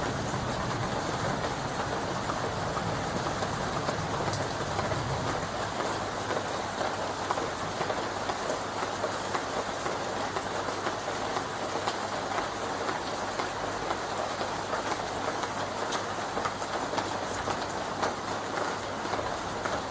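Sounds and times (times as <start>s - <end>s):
rain falling on leaves: 0.0s - 19.9s.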